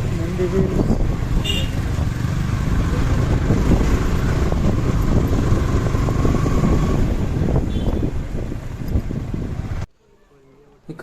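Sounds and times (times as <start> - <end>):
motorcycle engine and road rumble: 0.0 - 9.9
wind buffeting microphone: 0.0 - 9.9.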